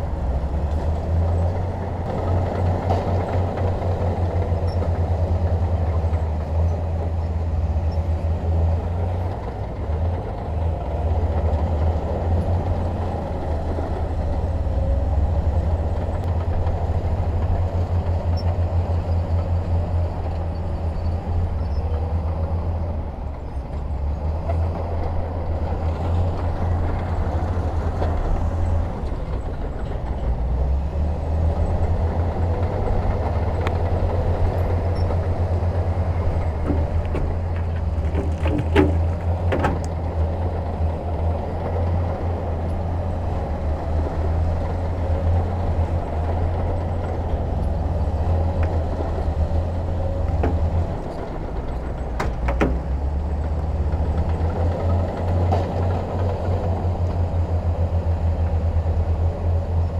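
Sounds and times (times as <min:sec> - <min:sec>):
diesel engine rumbling: 0:00.0 - 0:59.4.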